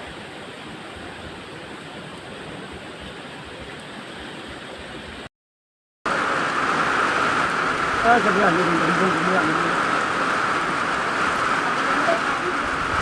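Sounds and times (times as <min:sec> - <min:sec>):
heavy rain and running water: 0:00.0 - 0:05.3, 0:06.0 - 0:13.0.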